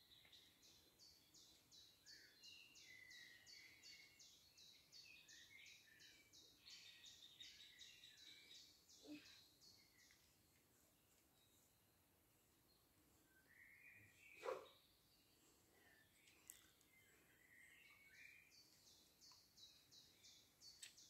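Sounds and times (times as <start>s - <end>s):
lower bird chirps: 0.0s - 10.3s, 12.7s - 21.0s.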